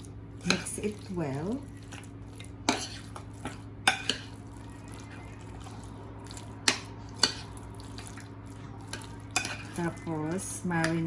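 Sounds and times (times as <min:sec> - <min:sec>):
wet squishing of marinade: 0:00.0 - 0:11.0.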